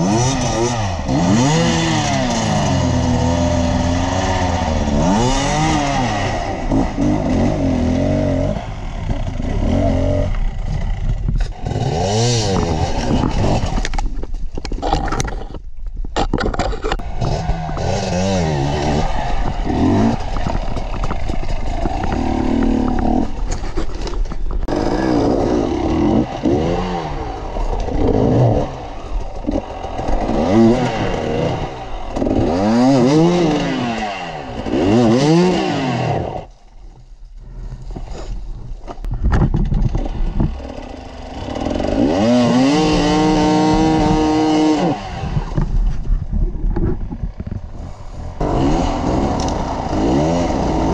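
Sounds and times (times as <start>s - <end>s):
dirt bike engines revving: 0.0s - 13.9s, 17.0s - 36.5s, 39.9s - 46.0s, 46.9s - 50.9s.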